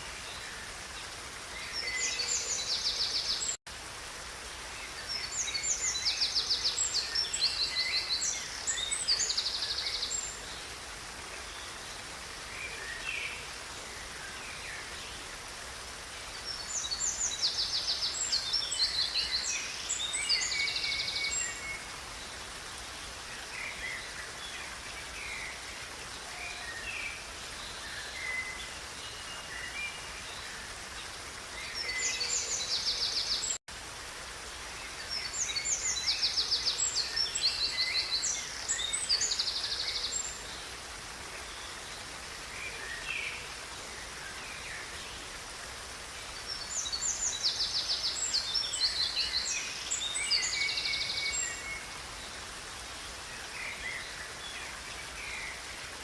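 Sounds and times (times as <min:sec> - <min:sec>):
songbirds singing: 0:00.0 - 0:03.6, 0:04.5 - 0:45.4, 0:46.0 - 0:56.0
river water rushing: 0:00.0 - 0:56.0.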